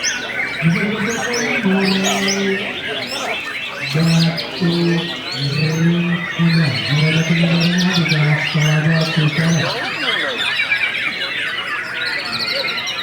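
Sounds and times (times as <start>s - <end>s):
songbirds singing: 0.0s - 11.6s.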